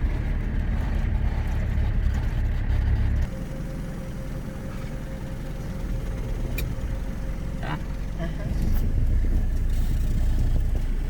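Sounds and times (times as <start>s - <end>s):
car driving rumble from inside: 0.0s - 3.9s, 4.6s - 11.0s.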